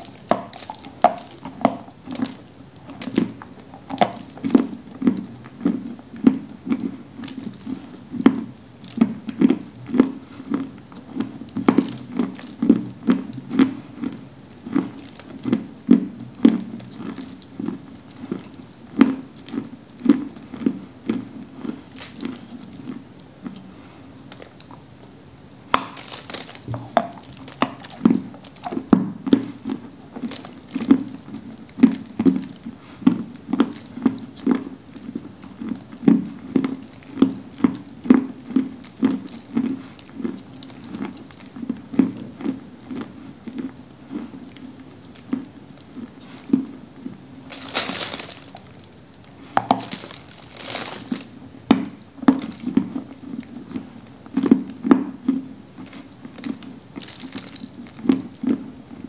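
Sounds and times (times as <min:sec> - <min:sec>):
chewing and crunching clay: 0:00.0 - 0:59.0.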